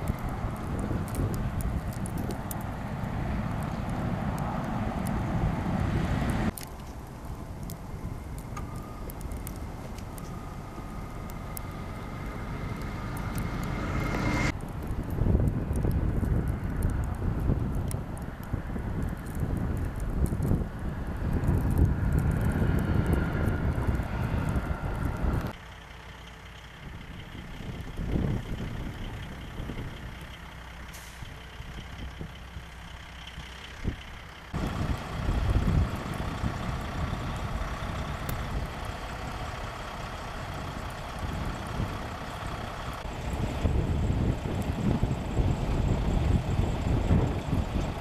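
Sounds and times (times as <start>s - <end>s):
truck engine noise: 0.0s - 48.0s.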